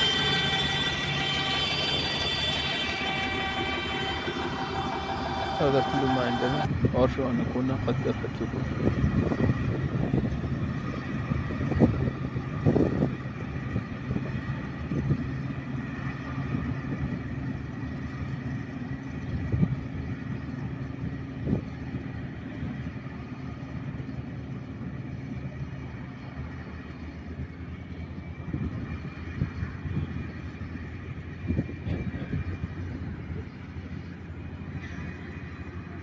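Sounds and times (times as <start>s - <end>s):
diesel engines humming: 0.0s - 36.0s.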